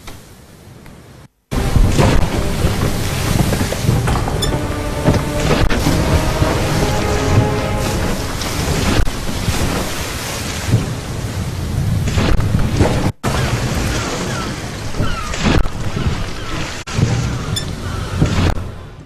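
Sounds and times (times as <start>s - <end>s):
storm and surf rumbling: 0.0s - 19.0s.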